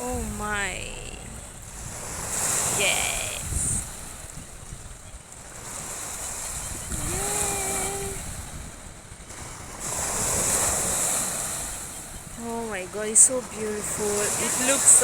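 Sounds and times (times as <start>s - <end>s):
lake water washing: 0.0s - 15.0s
wind gusting on microphone: 0.0s - 15.0s.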